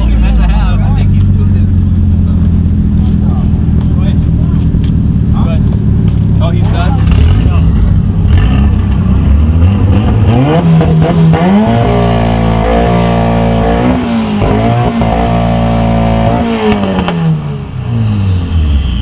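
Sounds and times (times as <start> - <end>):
car engine revving loud exhaust: 0.0 - 19.0.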